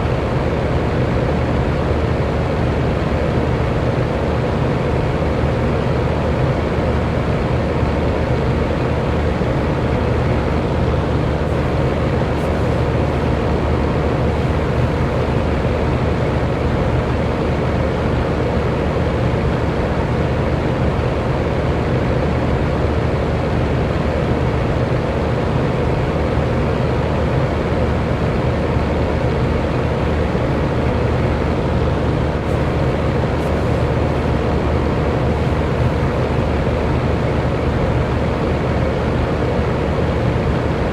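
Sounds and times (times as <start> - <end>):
electric fan rushing air: 0.0 - 40.9
fan motor hum: 0.0 - 40.9.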